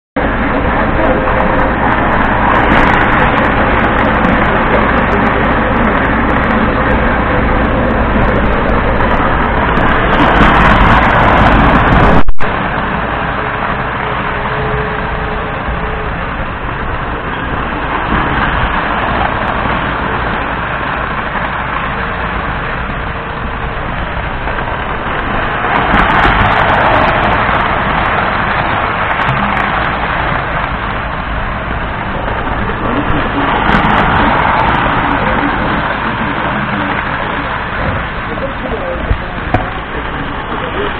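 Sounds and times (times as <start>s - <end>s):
toy train running on track: 0.3s - 40.9s.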